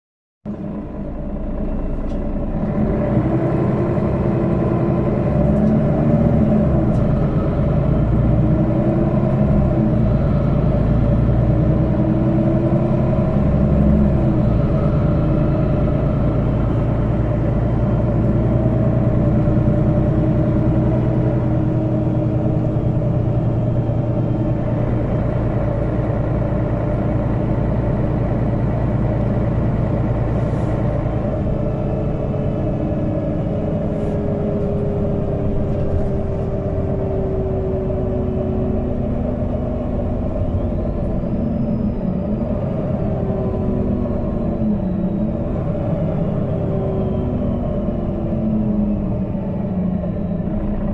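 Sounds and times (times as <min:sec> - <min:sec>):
bus diesel engine accelerating: 0:00.5 - 0:50.9.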